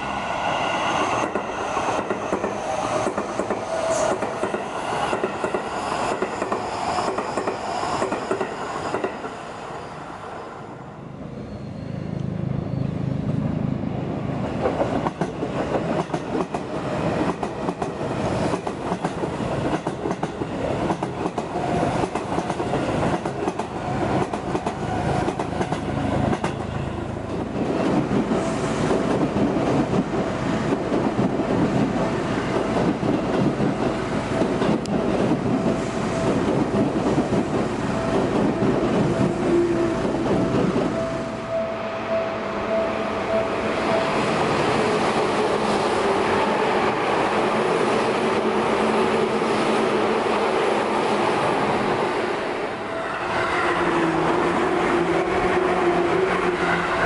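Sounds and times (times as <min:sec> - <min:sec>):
electric trains passing at speed: 0:00.0 - 0:57.0.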